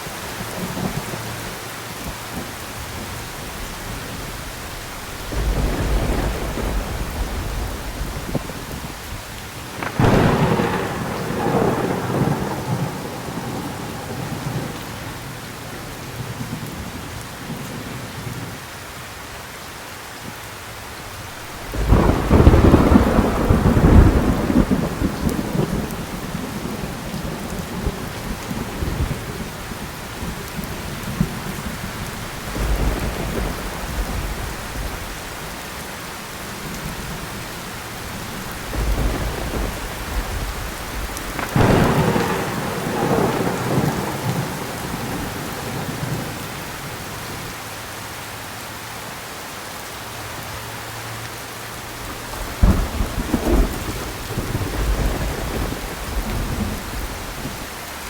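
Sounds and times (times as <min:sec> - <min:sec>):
heavy rain hissing: 0:00.0 - 0:58.0
thunder rumbling: 0:00.3 - 0:17.9, 0:21.1 - 0:47.5, 0:51.8 - 0:58.0.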